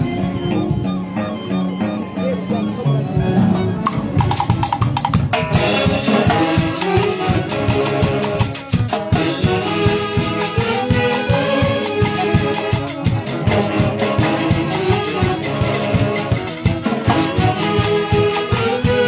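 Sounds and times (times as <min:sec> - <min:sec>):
dance orchestra playing: 0:00.0 - 0:19.0
steady drum beat: 0:03.2 - 0:19.0.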